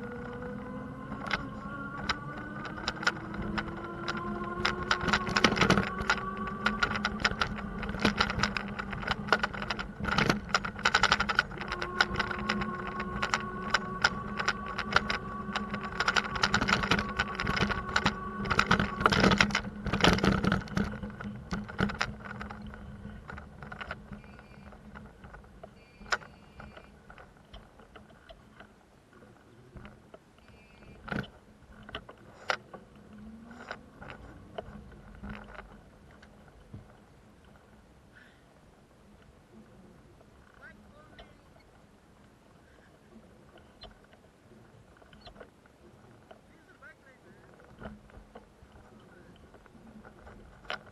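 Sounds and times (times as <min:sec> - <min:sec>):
bicycle rattling and clicking: 0:00.0 - 0:28.8, 0:29.8 - 0:38.4, 0:47.4 - 0:50.9
steady mechanical hum: 0:00.0 - 0:50.9.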